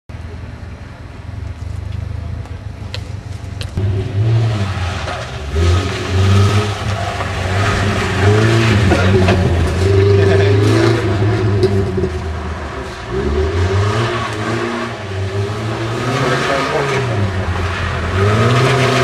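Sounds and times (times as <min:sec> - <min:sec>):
rally car engine revving: 0:03.6 - 0:19.0.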